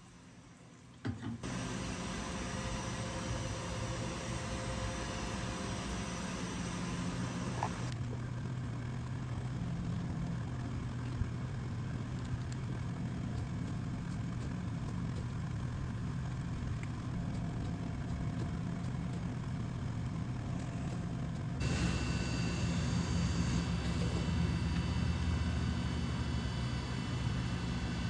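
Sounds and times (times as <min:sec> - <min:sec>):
machine hum: 0:01.4 - 0:28.0.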